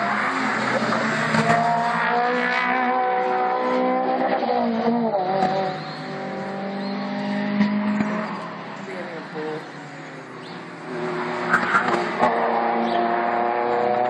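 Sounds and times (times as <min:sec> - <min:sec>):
race car engines running hard: 0:00.0 - 0:14.0.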